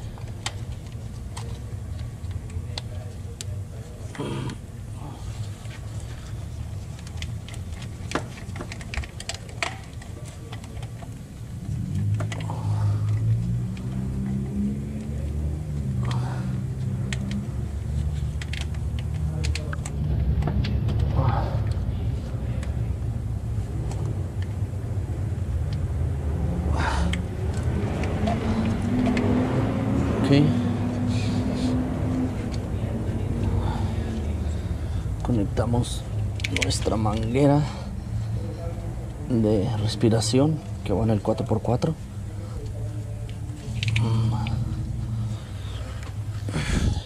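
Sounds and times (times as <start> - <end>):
low rumble of repair shop: 0.0 - 47.0
steady low hum: 0.0 - 47.0.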